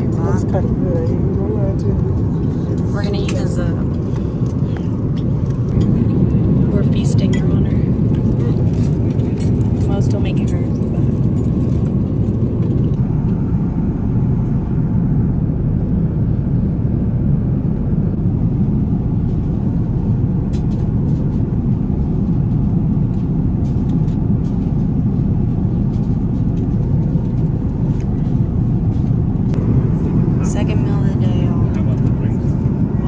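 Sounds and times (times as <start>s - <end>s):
airliner cabin drone: 0.0s - 33.0s.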